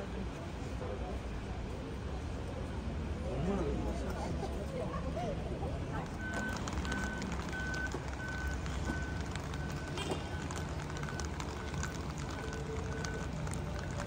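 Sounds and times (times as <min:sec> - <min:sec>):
street noise rumble: 0:00.0 - 0:14.0.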